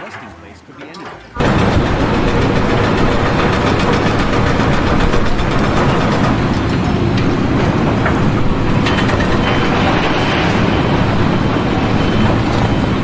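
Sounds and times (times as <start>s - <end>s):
loud mechanical rumble: 1.2s - 13.0s.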